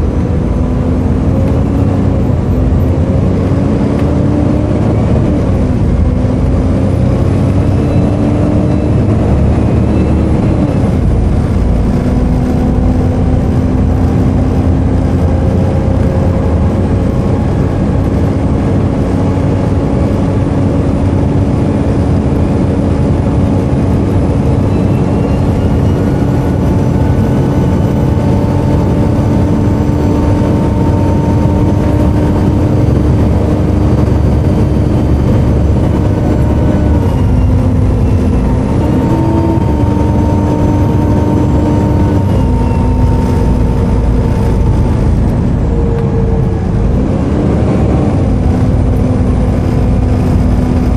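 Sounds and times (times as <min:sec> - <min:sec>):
bus diesel engine pulling away: 0:00.0 - 0:50.9
high turbo whine: 0:00.0 - 0:50.9.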